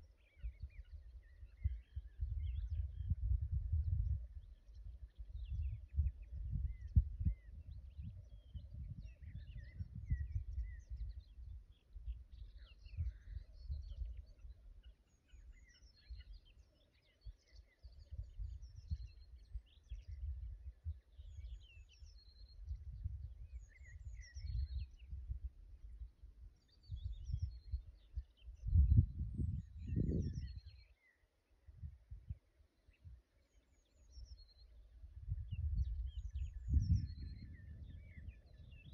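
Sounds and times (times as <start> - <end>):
wind rumble on microphone: 0.0 - 33.2, 34.0 - 38.9
small birds chirping: 0.0 - 38.9.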